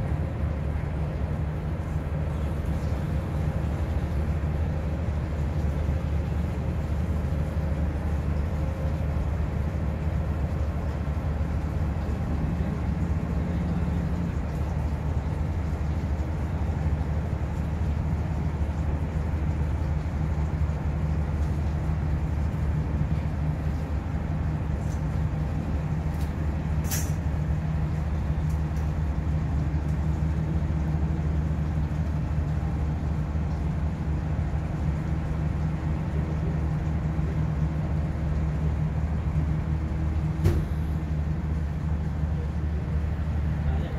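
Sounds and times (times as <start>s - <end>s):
ship engine droning: 0.0s - 43.9s.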